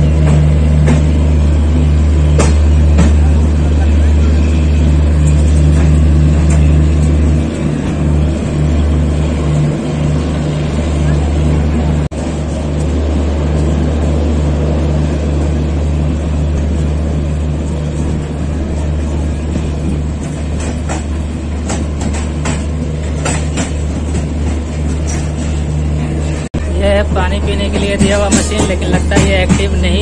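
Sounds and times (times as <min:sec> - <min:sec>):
diesel generator droning: 0:00.0 - 0:30.0
train wheels rumbling on rail: 0:00.0 - 0:30.0.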